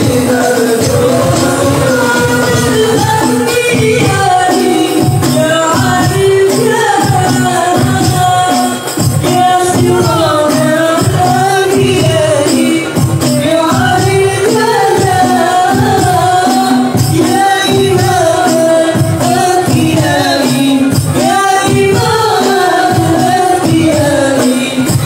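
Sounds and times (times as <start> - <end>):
frame drums beating: 0.0 - 25.0
man singing through a microphone: 0.0 - 25.0.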